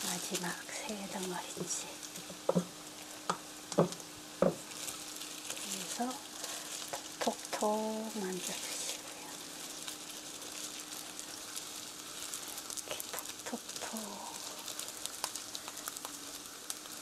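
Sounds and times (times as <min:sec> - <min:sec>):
faint steady hum: 0:00.0 - 0:17.0
meat sizzling in a frying pan: 0:00.0 - 0:17.0.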